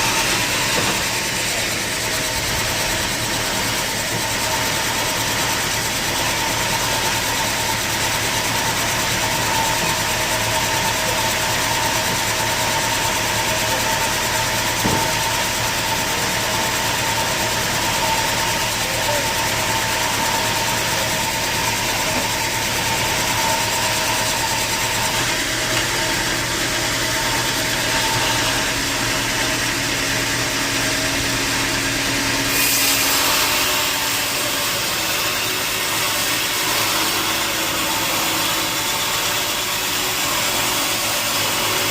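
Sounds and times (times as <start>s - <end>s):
sawmill machinery droning: 0.0s - 41.9s.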